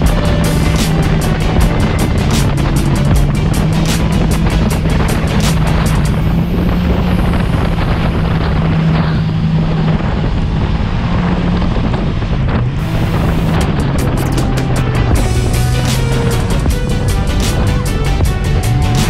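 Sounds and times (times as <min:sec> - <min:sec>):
boat engine drone: 0:00.0 - 0:19.0
wind buffeting microphone: 0:00.0 - 0:19.0.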